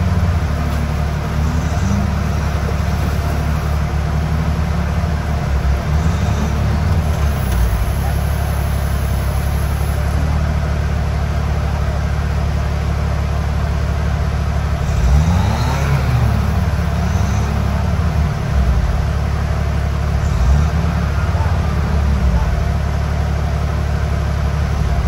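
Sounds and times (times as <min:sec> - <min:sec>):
off-road vehicle engine revving: 0:00.0 - 0:25.0.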